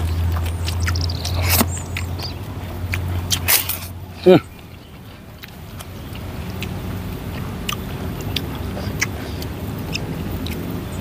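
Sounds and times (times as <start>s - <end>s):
close chewing and mouth clicks: 0.0s - 11.0s
low motor-like rumble: 0.0s - 11.0s.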